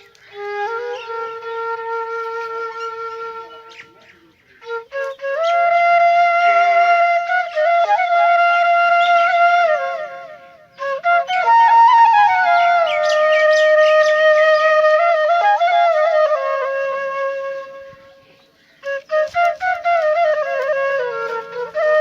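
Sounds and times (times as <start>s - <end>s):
solo flute melody: 0.0s - 22.0s.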